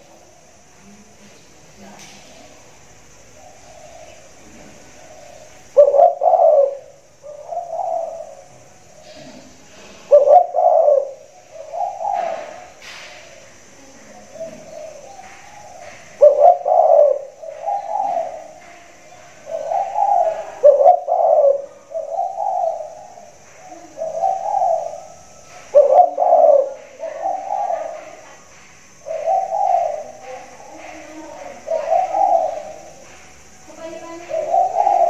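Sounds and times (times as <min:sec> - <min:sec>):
dove cooing: 0:02.2 - 0:35.0.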